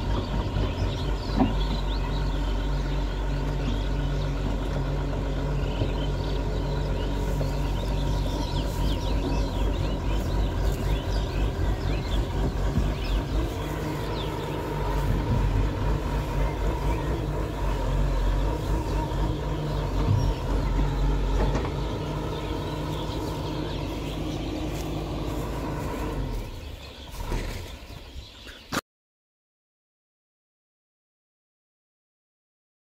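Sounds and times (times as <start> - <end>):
excavator diesel engine running: 0.0 - 28.7
birds chirping: 0.0 - 28.8.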